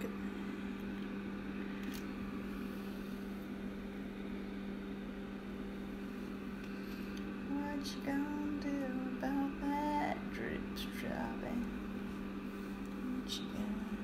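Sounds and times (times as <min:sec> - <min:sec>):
projector cooling fan humming: 0:00.0 - 0:14.0.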